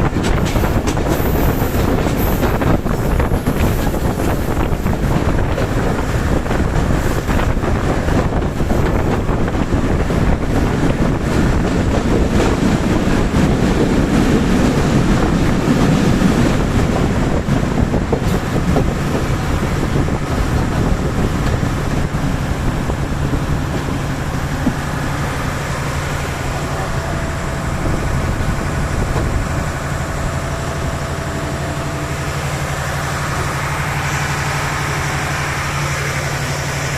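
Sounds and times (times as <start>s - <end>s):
train rumbling on tracks: 0.0s - 36.9s
wind buffeting microphone: 0.0s - 36.9s.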